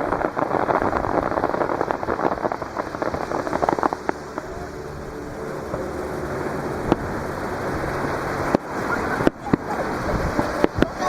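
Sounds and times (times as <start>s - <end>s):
fireworks bursting bangs: 0.0s - 11.0s
surf washing on shore: 0.0s - 11.0s.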